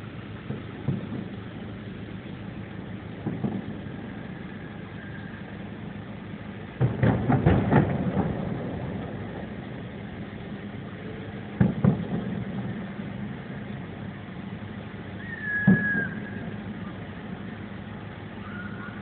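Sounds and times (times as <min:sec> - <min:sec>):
car engine idling: 0:00.0 - 0:19.0
fireworks bursting: 0:00.0 - 0:19.0.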